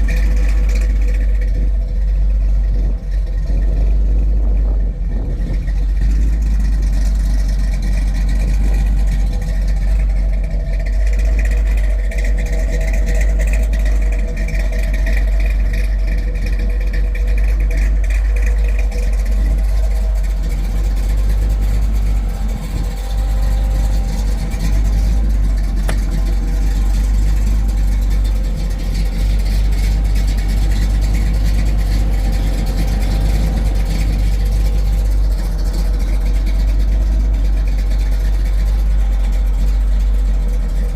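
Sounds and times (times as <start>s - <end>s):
car engine low rumble: 0.0s - 40.9s.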